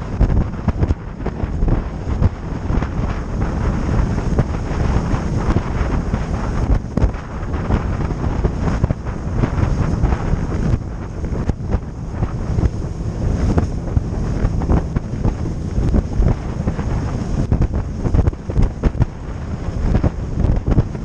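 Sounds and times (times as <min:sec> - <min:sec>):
motorboat running on water: 0:00.0 - 0:21.0
wind buffeting microphone: 0:00.0 - 0:21.0.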